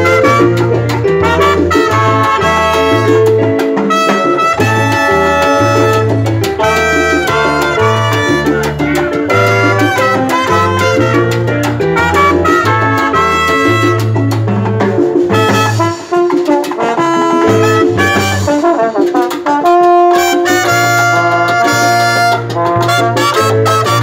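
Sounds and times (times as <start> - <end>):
electric bass: 0.0 - 24.0
percussion: 0.0 - 24.0
trumpet section melody: 0.0 - 24.0.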